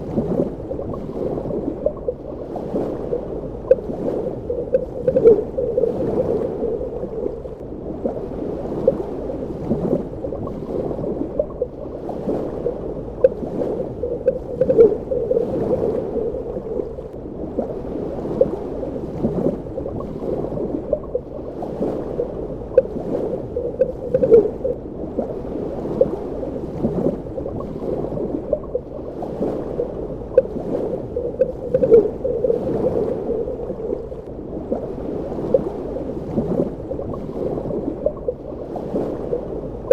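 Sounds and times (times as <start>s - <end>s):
bubbling gurgles and pops: 0.0s - 39.9s
muffled underwater rush: 0.0s - 39.9s.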